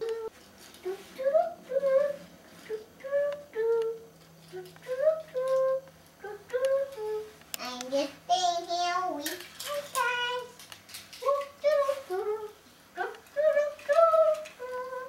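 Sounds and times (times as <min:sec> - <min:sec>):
young boy singing: 0:00.0 - 0:15.0.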